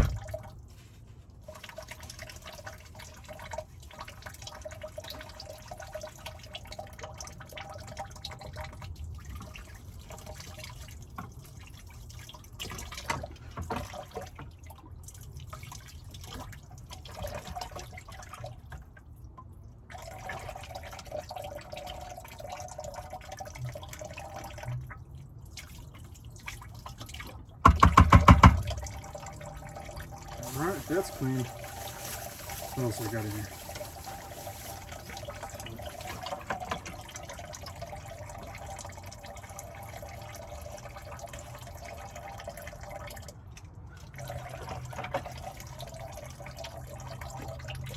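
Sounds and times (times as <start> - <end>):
water trickling and dripping: 0.0 - 47.9.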